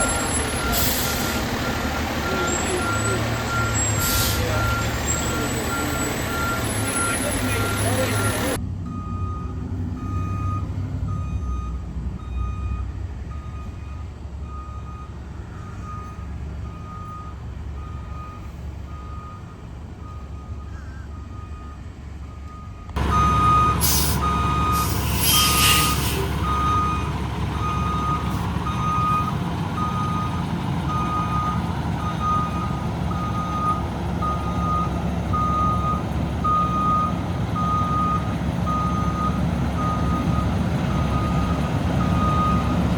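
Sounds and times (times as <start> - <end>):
truck engine running: 0.0 - 20.6, 21.3 - 42.9
reversing alarm beeps: 1.7 - 42.8.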